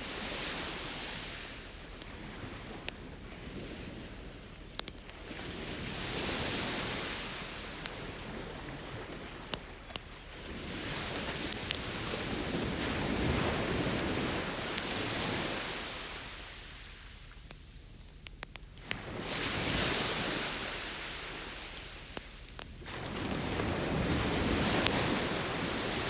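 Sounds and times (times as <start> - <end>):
ocean waves washing ashore: 0.0 - 17.2, 18.8 - 26.0
wood fire crackling: 0.1 - 26.0.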